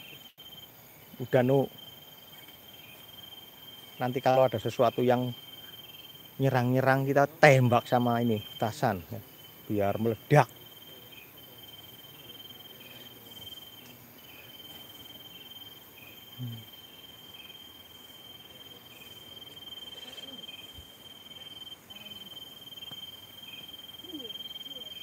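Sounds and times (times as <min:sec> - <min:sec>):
cricket chirping: 0:00.0 - 0:25.0
cricket steady high trill: 0:00.0 - 0:25.0.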